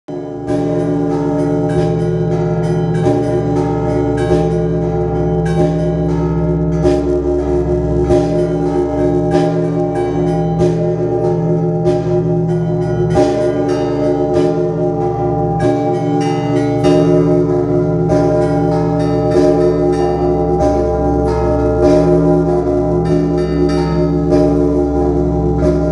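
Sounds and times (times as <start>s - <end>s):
bells ringing: 0.1s - 25.9s
sustained drone: 0.2s - 25.9s.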